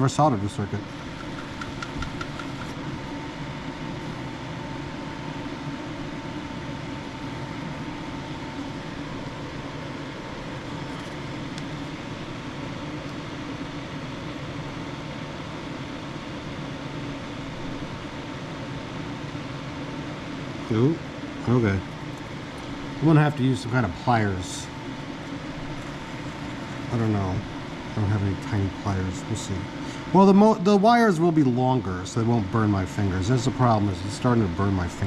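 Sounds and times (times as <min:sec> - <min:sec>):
mechanical hum with high whine: 0:00.0 - 0:35.0.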